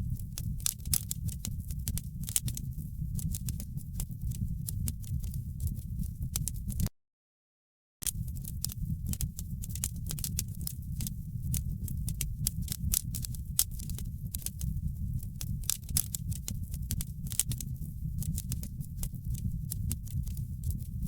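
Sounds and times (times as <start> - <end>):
wood fire crackling: 0.0 - 6.9, 8.0 - 21.0.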